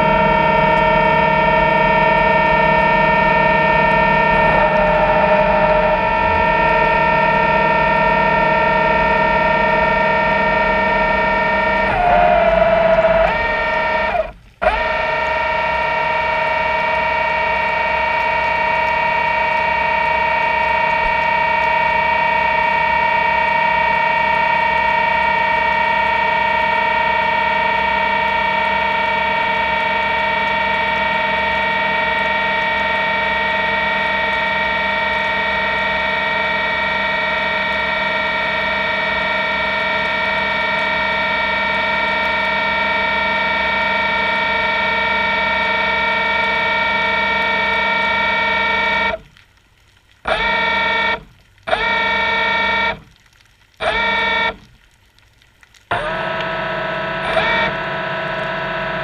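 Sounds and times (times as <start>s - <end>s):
steady electric whine: 0.0s - 59.0s.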